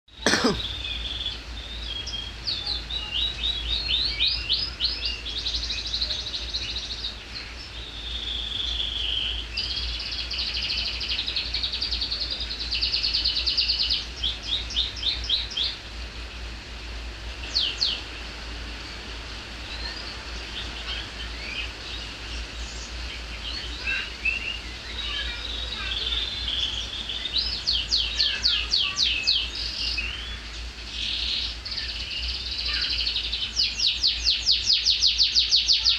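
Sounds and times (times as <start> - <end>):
canary singing trills: 0.1 - 35.9.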